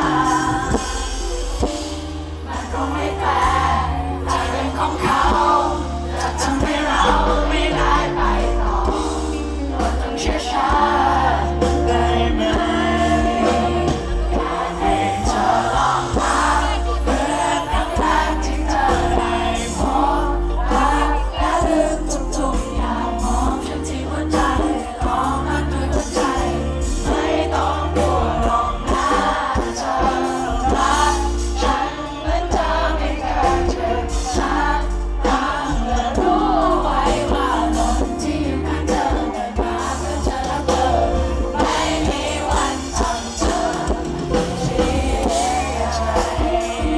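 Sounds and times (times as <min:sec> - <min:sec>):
live band playing: 0:00.0 - 0:46.9
steady bass line: 0:00.0 - 0:46.9
man singing pop song: 0:02.6 - 0:09.0, 0:09.6 - 0:46.9.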